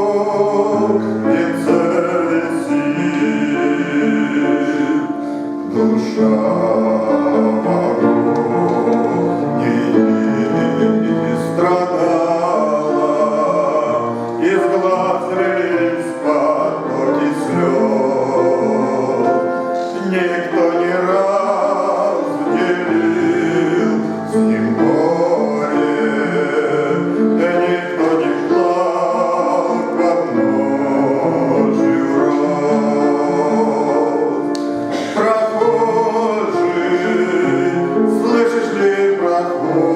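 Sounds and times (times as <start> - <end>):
instrumental accompaniment: 0.0 - 39.9
man singing a hymn: 0.0 - 39.9.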